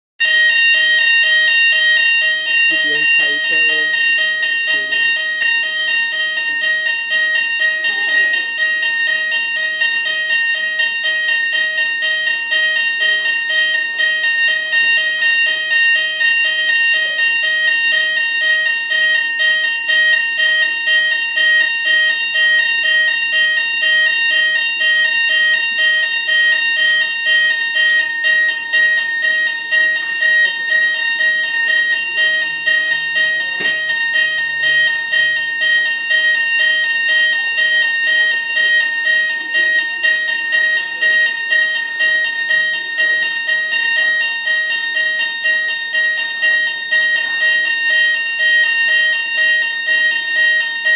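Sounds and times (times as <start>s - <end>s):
fire alarm tone: 0.2s - 50.9s
low pulsing alarm tone: 0.2s - 50.9s.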